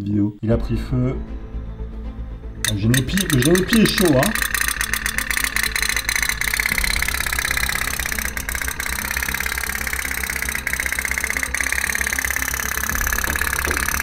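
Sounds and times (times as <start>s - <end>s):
sharp clicks: 2.7s - 14.0s
toy boat boiler popping: 2.7s - 14.0s.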